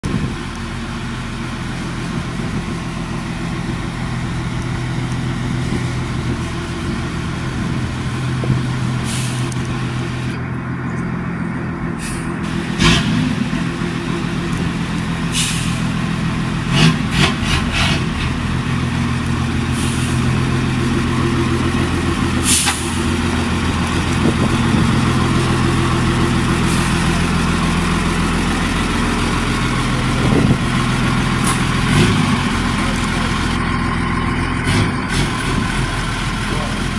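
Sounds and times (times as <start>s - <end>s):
truck engine running at low revs: 0.0s - 36.9s.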